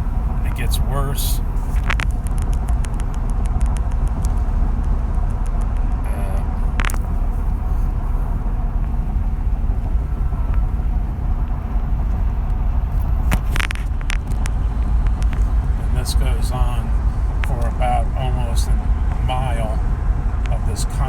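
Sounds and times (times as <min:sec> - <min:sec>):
road rumble inside truck cab: 0:00.0 - 0:21.0.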